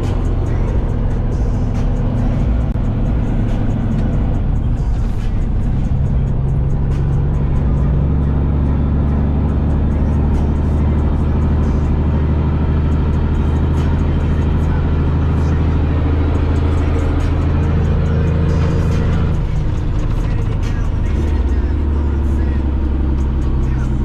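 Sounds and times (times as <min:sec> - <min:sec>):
road and tyre noise: 0:00.0 - 0:24.0
truck diesel engine droning: 0:00.0 - 0:24.0.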